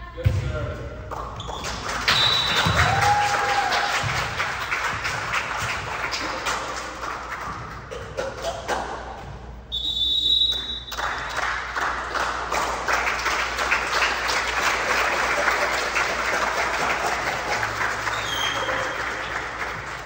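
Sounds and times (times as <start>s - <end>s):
spectators clapping and cheering: 1.1s - 9.2s, 10.4s - 20.0s.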